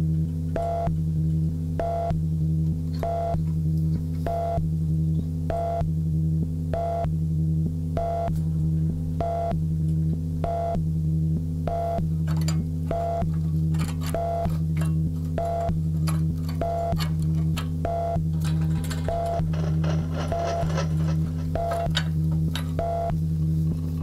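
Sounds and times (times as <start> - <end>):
buzzy pitched pulse: 0.0 - 24.0
electronic low drone: 0.0 - 24.0.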